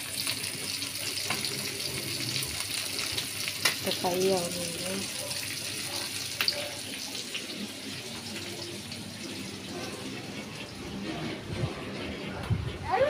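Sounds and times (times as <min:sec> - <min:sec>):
fish sizzling in hot oil: 0:00.0 - 0:10.6.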